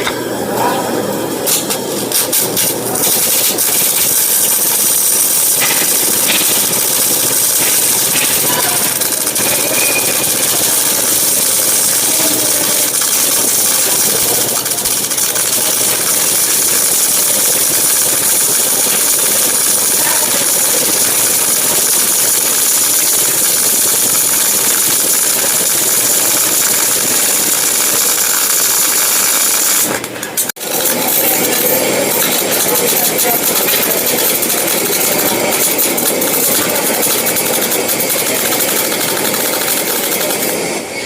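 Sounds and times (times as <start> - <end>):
welding arc hissing: 0.0 - 41.0.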